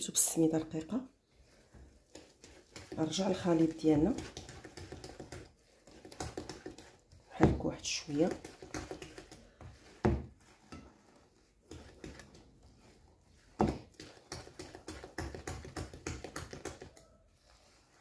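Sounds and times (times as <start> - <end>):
spatula scraping batter in bowl: 0.0 - 18.0.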